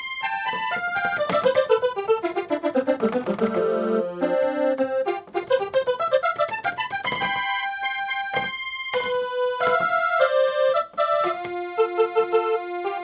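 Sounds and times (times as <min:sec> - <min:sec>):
electronic keyboard music: 0:00.0 - 0:13.0.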